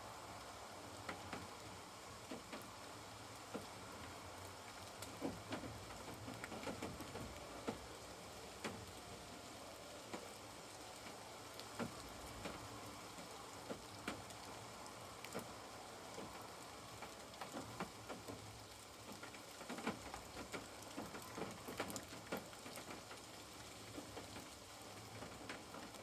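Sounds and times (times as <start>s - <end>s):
faint steady hiss: 0.0s - 26.0s
raindrops tapping on a caravan: 0.7s - 26.0s.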